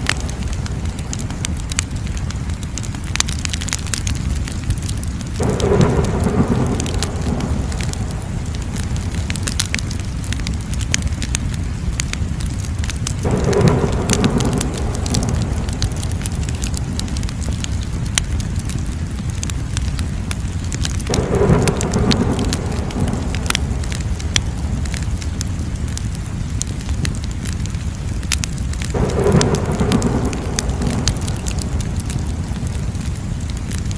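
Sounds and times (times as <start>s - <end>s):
fire pops and snaps: 0.0s - 33.9s
rush of flame: 0.0s - 33.9s
wood fire crackling: 0.0s - 33.9s.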